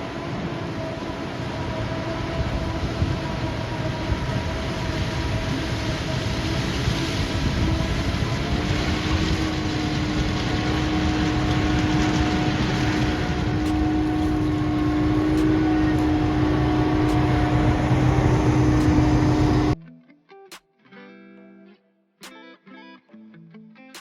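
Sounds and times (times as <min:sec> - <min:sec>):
held humming tones: 0:00.0 - 0:19.8
low mechanical rumble: 0:00.0 - 0:19.8.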